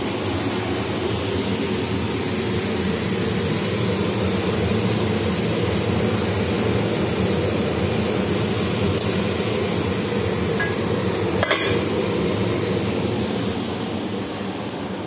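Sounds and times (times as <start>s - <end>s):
extractor fan humming: 0.0s - 15.0s.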